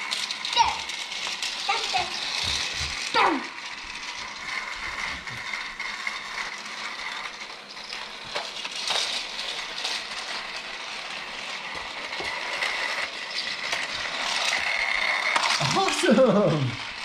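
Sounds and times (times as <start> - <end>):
toy train motor whining: 0.0 - 17.0
wheels clicking on plastic track: 0.0 - 17.0.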